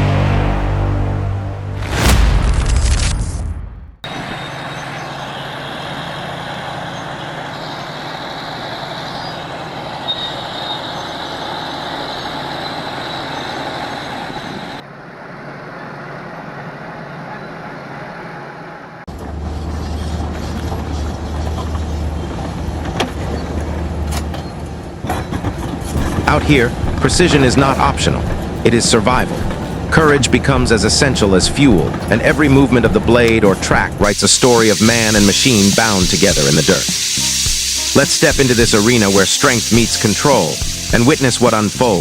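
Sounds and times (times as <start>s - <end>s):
heavy machinery running: 4.0s - 17.2s, 19.1s - 42.0s.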